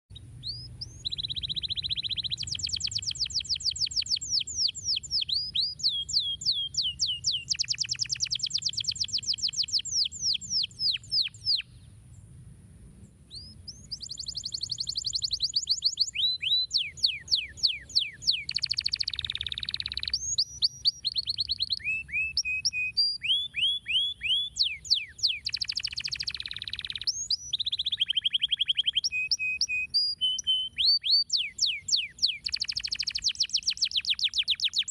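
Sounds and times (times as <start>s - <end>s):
canary singing: 0.1s - 11.7s, 13.3s - 34.9s.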